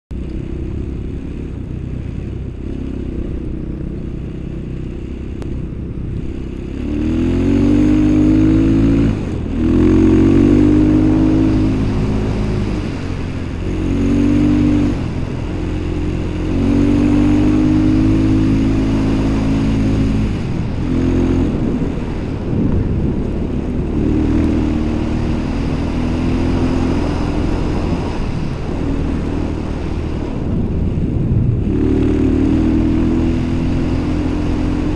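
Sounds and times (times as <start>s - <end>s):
off-road vehicle engine surging: 0.1s - 34.9s.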